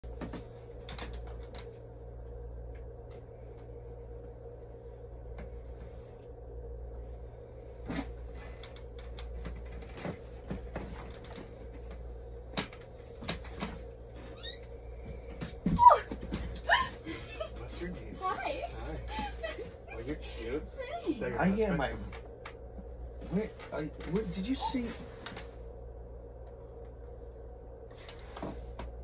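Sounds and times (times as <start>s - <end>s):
airliner cabin hum: 0.0s - 29.0s.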